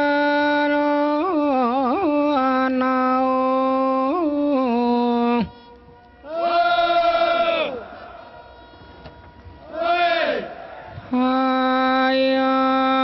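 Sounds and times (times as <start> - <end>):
person chanting in long held notes: 0.0 - 13.0.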